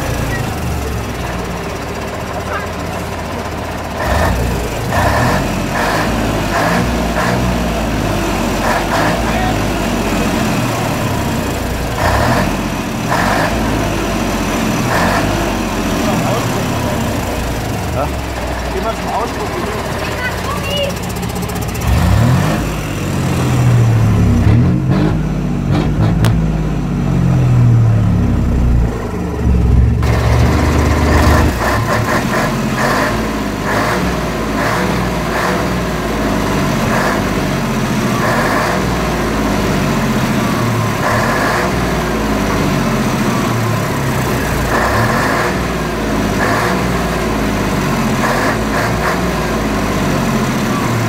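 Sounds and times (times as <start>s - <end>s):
diesel truck engine revving: 0.0s - 51.0s.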